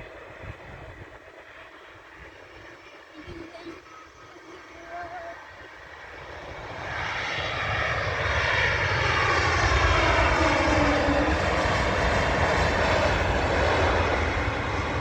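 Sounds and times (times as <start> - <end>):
airliner engines passing by: 0.0 - 15.0.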